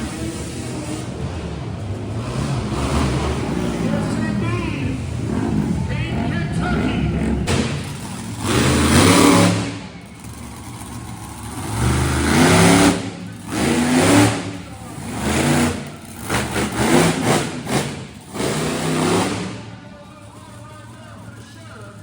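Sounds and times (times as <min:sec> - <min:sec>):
vehicle engine revving hard: 0:00.0 - 0:10.4, 0:11.3 - 0:19.8.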